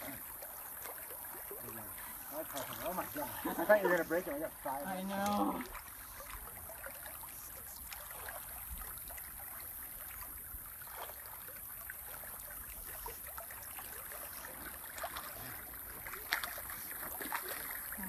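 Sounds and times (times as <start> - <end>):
flowing creek water: 0.0 - 18.0.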